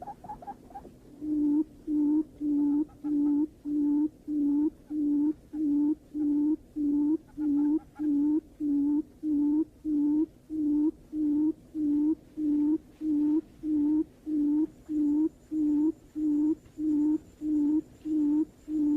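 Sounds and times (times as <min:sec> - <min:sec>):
bird low even hoots: 0:00.0 - 0:18.9.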